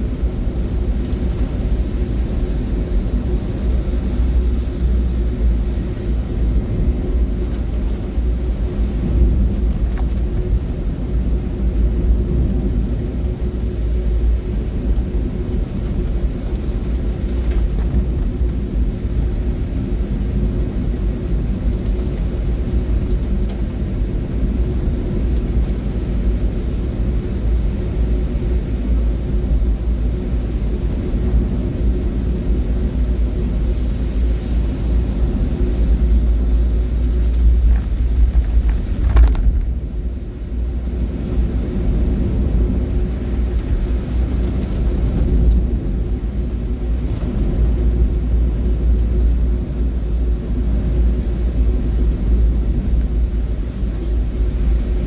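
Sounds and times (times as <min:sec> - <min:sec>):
vehicle rumble: 0:00.0 - 0:55.0.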